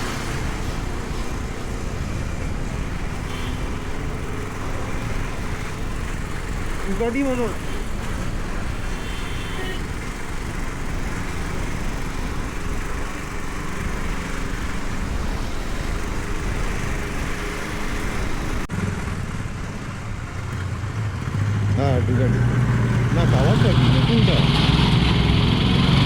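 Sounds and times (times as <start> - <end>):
motorcycle engine running: 0.0 - 26.0
road noise: 0.0 - 26.0.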